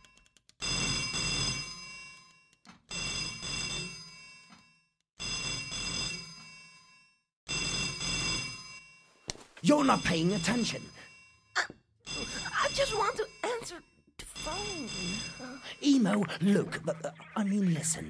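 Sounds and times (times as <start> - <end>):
telephone bell ringing: 0.0 - 17.3.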